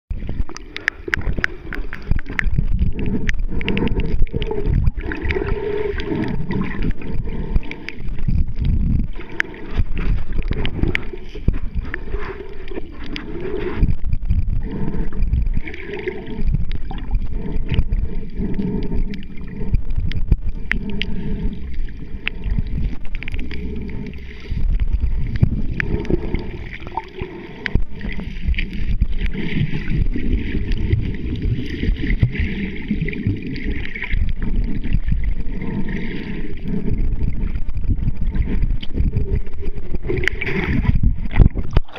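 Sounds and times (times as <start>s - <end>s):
churning underwater water: 0.1s - 41.9s
sharp underwater clicks: 0.2s - 41.9s.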